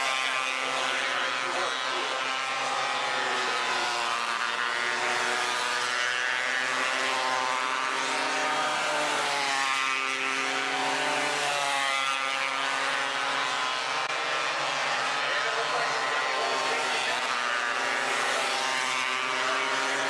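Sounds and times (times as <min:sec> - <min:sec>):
race car engines passing: 0:00.0 - 0:20.0.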